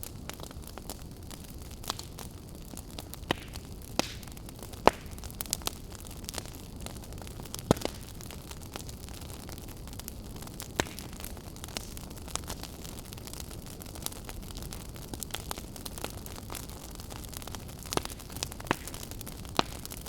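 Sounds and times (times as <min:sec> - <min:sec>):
burning wood popping and snapping: 0:00.0 - 0:20.0
low rumble of flames: 0:00.0 - 0:20.0.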